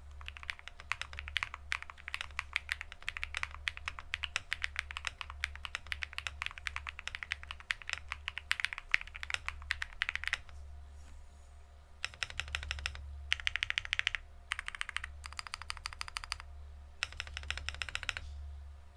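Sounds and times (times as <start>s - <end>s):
fast typing on mechanical keyboard: 0.0s - 10.5s, 12.0s - 18.2s.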